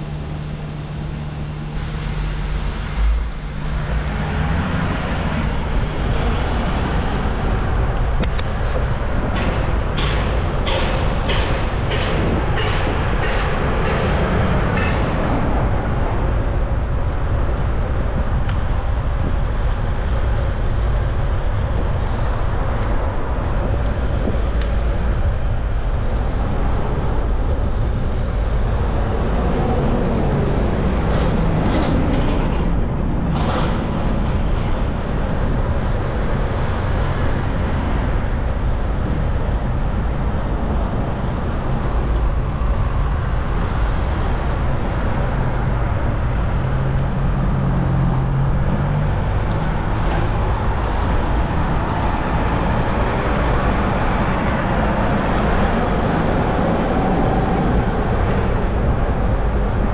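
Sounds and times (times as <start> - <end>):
city road traffic: 0.0 - 59.9.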